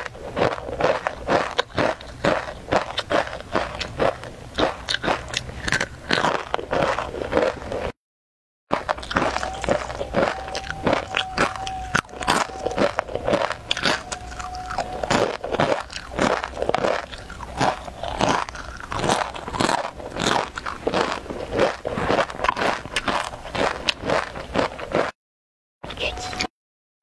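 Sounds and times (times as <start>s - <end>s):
crunching and chewing snack: 0.0s - 8.0s, 8.7s - 25.2s.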